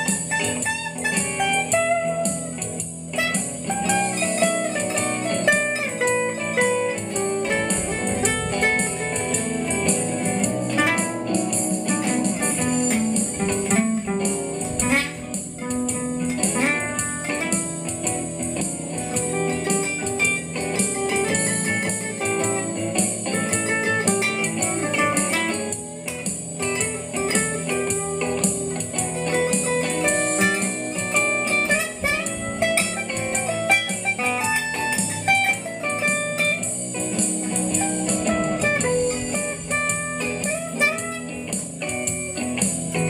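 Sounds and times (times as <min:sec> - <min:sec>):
blues guitar plucked notes: 0:00.0 - 0:43.0.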